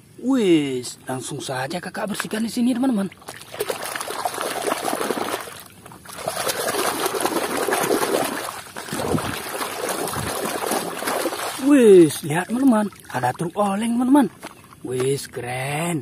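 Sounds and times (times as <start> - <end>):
water sloshing and splashing: 2.0 - 15.4.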